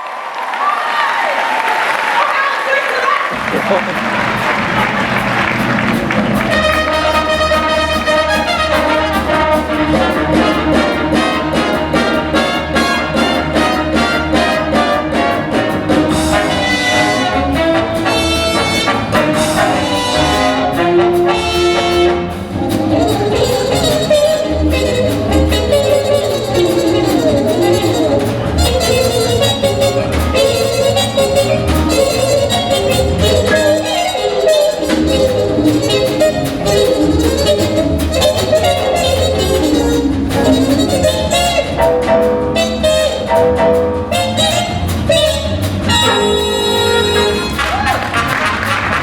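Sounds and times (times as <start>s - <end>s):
trumpets and trombones: 3.0s - 49.0s
big band jazz: 3.2s - 49.0s.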